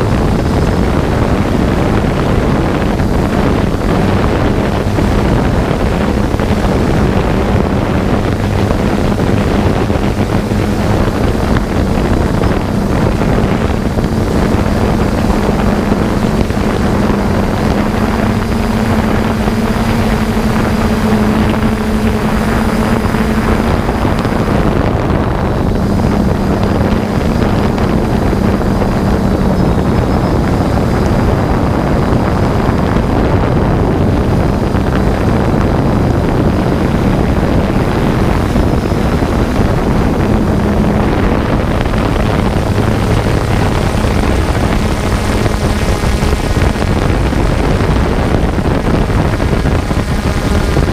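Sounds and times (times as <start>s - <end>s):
drone propellers humming: 0.0s - 50.9s
wind noise on microphone: 0.0s - 50.9s.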